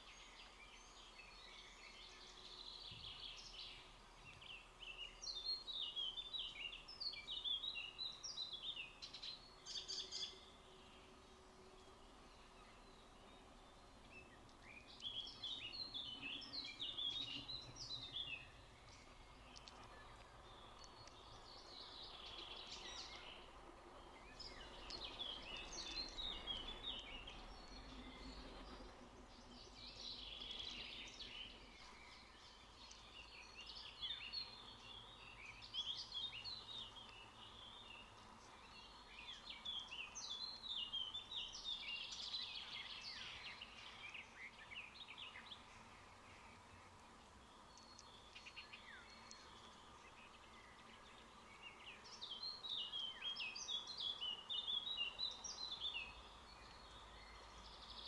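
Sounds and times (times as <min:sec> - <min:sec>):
birds chirping: 0:00.0 - 0:58.0
faint steady hum: 0:00.0 - 0:58.0.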